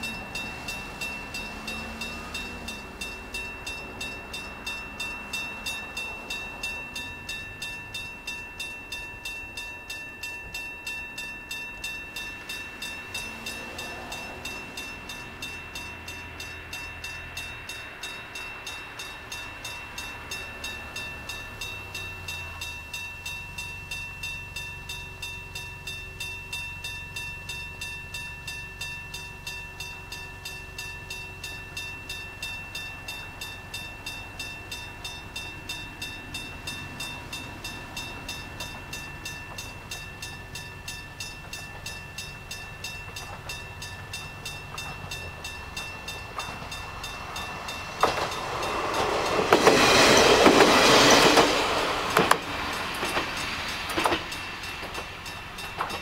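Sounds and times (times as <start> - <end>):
level-crossing bell ringing: 0.0 - 56.0
train wheels clacking: 0.0 - 56.0.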